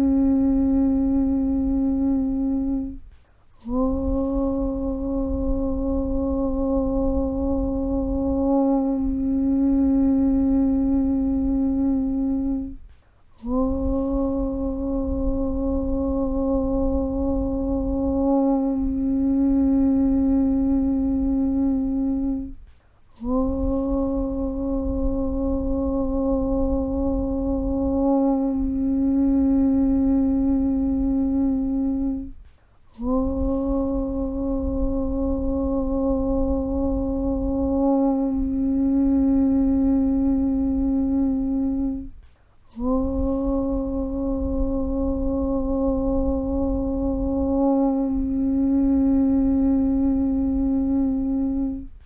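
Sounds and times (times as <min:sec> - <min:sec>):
low rumble: 0:00.0 - 0:52.0
person chanting om: 0:00.0 - 0:52.0.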